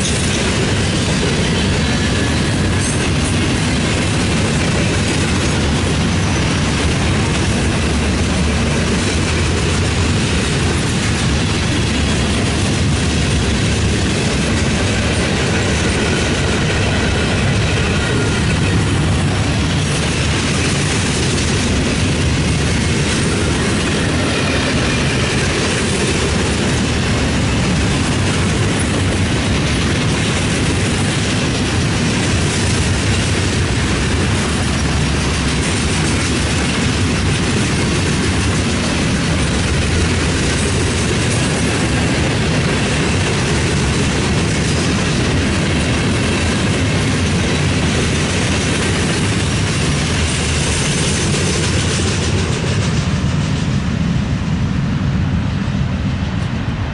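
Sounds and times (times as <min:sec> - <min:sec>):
steel train wheels on rails: 0:00.0 - 0:56.9.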